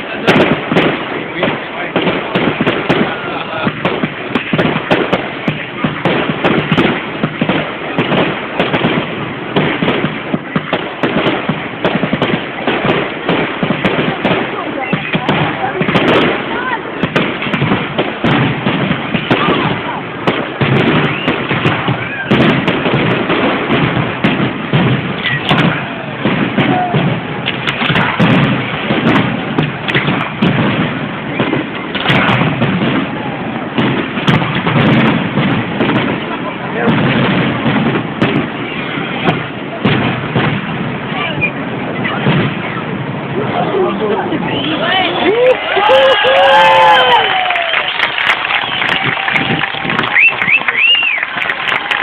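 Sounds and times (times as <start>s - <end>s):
fireworks bangs and cracks: 0.0s - 52.0s
fireworks crackling: 0.0s - 52.0s.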